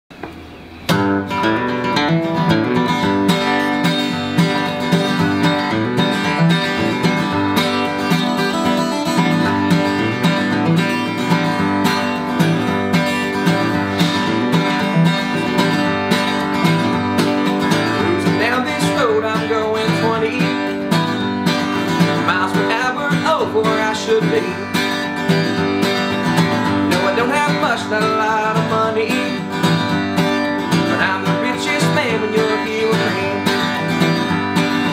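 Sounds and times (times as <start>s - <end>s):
acoustic guitar strummed and picked: 0.2s - 34.9s.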